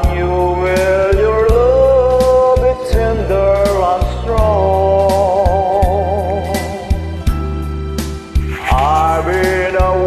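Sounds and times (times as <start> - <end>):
person singing with vibrato: 0.0 - 7.0, 8.4 - 10.0
karaoke backing track: 0.0 - 10.0.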